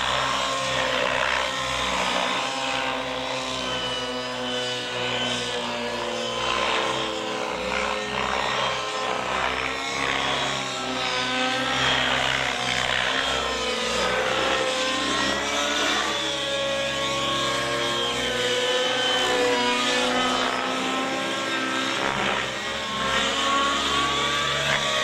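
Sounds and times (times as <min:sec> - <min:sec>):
model helicopter engine whine: 0:00.0 - 0:25.0.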